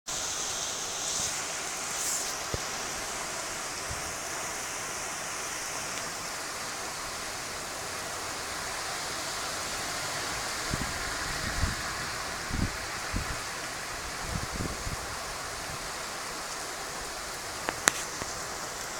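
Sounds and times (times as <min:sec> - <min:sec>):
heavy rain hissing: 0:00.1 - 0:18.9.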